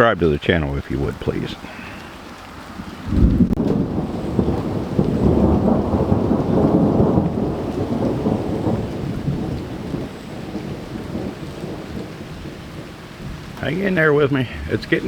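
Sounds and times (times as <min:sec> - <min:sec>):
thunder clap and rumble: 0:02.6 - 0:15.0.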